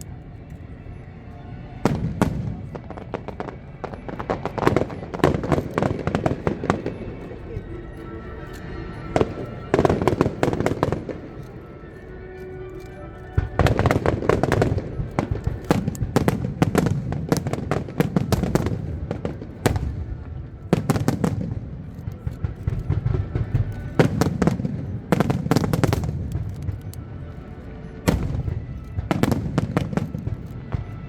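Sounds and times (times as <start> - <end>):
fireworks bangs and crackling: 1.8 - 7.7, 9.2 - 11.5, 13.4 - 27.2, 27.9 - 31.0.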